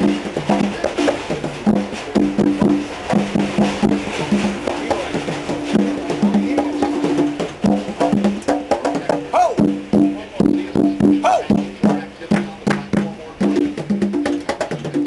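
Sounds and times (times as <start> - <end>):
low drum strokes: 0.0 - 15.0.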